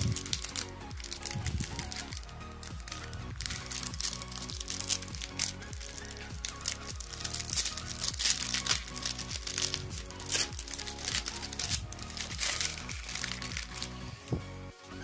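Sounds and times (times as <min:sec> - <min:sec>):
foil wrapper tearing and crinkling: 0:00.0 - 0:14.4
background music with steady beat: 0:00.0 - 0:15.0.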